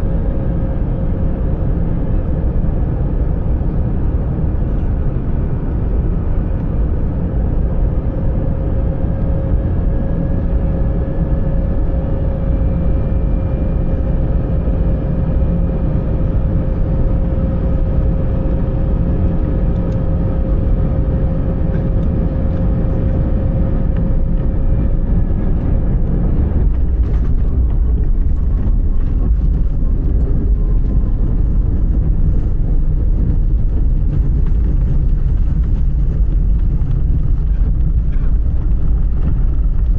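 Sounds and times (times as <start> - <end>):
jet engine and airflow roar: 0.0 - 39.9
steady whine: 0.0 - 39.9.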